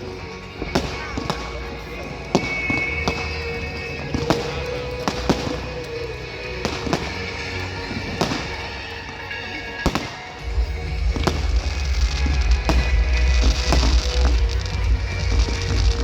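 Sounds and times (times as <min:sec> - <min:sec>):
background music: 0:00.0 - 0:16.0
fireworks bangs and cracks: 0:00.0 - 0:16.0.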